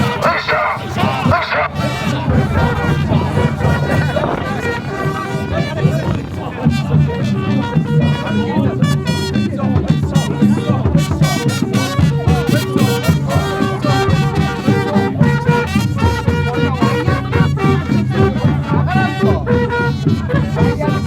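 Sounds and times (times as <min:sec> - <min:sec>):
upbeat brass music with trumpets: 0:00.0 - 0:21.0.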